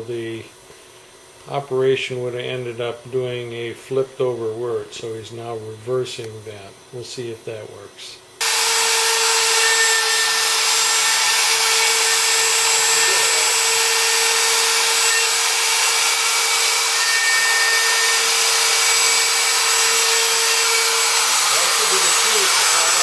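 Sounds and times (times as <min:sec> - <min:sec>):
spindle motor running with hiss: 0:00.0 - 0:23.0.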